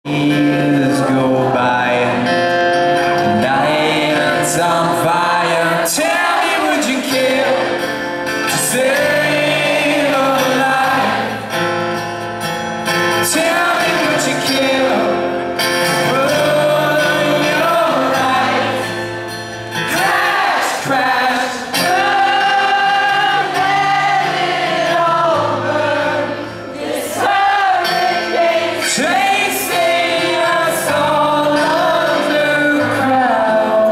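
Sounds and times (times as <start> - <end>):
man singing lead vocal: 0.0 - 11.8, 13.0 - 33.9
crowd singing along: 0.0 - 33.9
acoustic accompaniment: 0.1 - 33.9.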